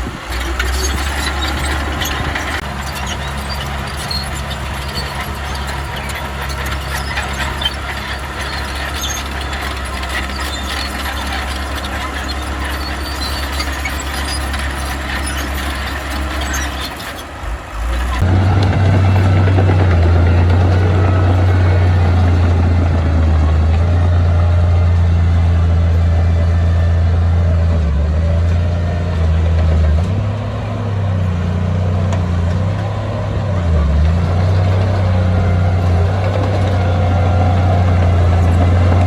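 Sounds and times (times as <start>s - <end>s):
deep engine drone: 0.0s - 39.0s
heavy machinery diesel engines: 0.0s - 39.0s.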